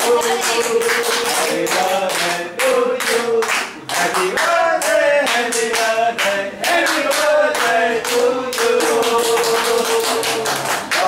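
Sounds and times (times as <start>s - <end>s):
group of people singing: 0.0s - 11.0s
people clapping in time: 0.0s - 11.0s.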